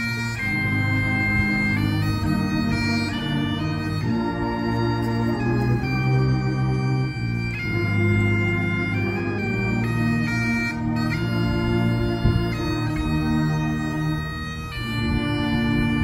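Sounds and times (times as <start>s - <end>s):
bagpipes playing a slow tune: 0.0s - 16.0s.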